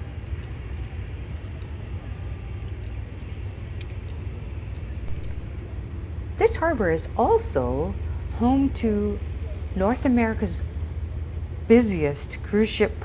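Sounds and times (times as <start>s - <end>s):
engine and traffic rumble: 0.0s - 13.0s.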